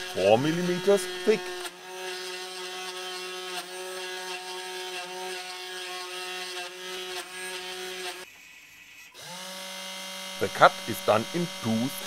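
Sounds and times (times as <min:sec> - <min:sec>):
router spindle whine: 0:00.0 - 0:03.0, 0:03.6 - 0:12.0.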